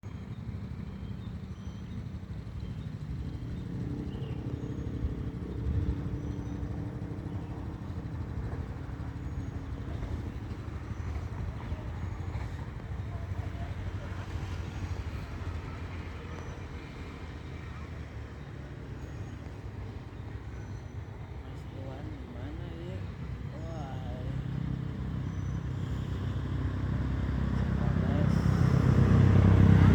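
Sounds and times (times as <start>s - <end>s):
motorcycle engine rumbling: 0.0s - 29.9s.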